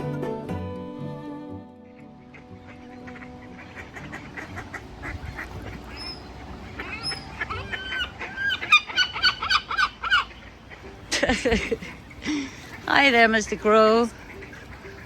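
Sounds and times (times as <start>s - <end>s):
gulls calling: 1.8s - 15.0s.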